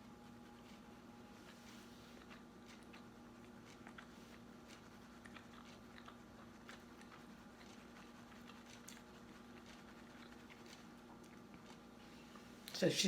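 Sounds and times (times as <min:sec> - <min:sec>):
steady low hum: 0:00.0 - 0:13.0
chewing and mouth clicks: 0:01.4 - 0:12.5.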